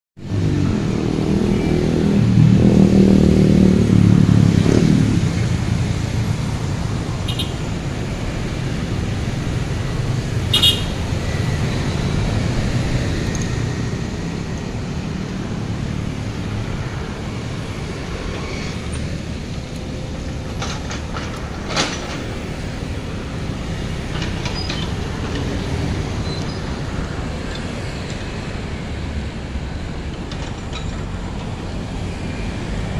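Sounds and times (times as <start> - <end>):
excavator diesel engine running: 5.9 - 32.9.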